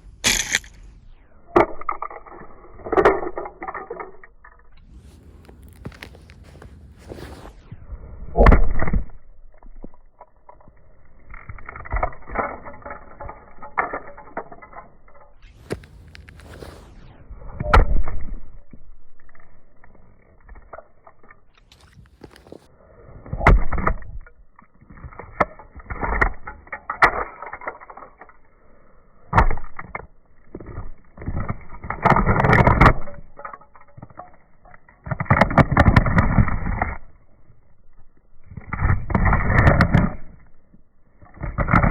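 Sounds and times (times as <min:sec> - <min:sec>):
gritty scraping on asphalt: 0:00.0 - 0:28.4, 0:29.3 - 0:41.9.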